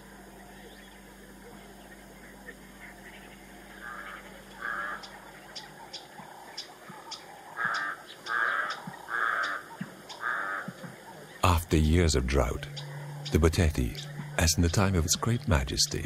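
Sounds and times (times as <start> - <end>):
bird harsh calls: 0.4 - 16.0.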